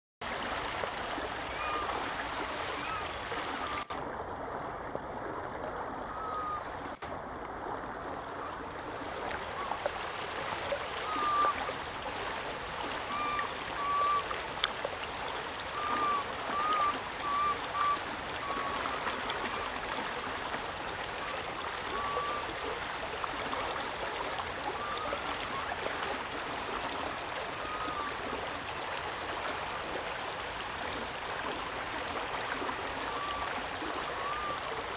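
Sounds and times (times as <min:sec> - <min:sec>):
running water: 0:00.2 - 0:34.9.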